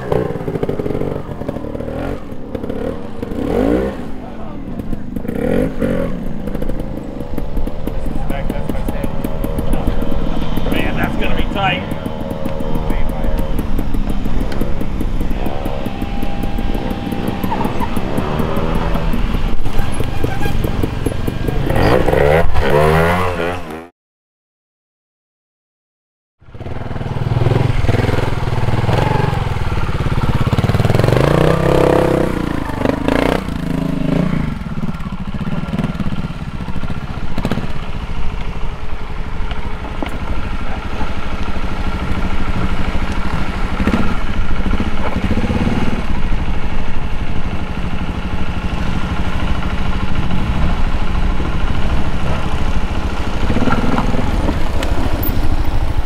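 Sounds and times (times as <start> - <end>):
motorcycle engine revving: 0.0 - 23.9, 26.4 - 56.0.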